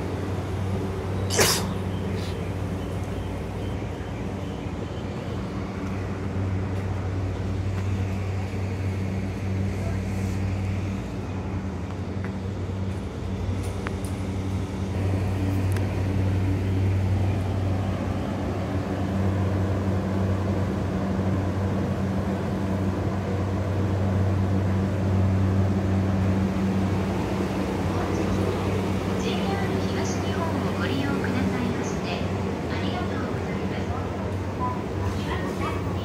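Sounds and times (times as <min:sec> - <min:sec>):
electric train slowing to a stop: 0:00.0 - 0:36.0.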